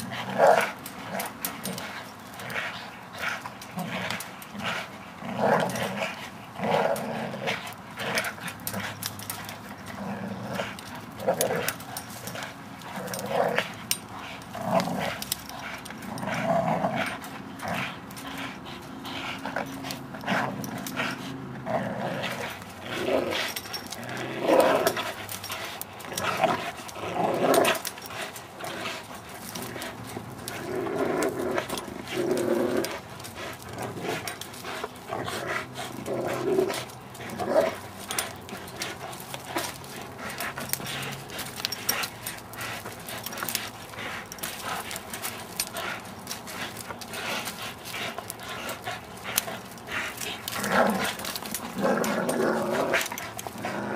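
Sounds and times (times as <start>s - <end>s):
dogs growling: 0.0s - 53.9s.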